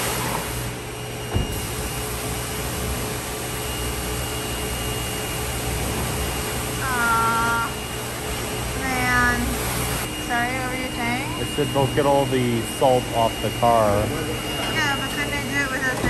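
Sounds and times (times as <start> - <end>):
pressure washer pumps humming: 0.0 - 16.0.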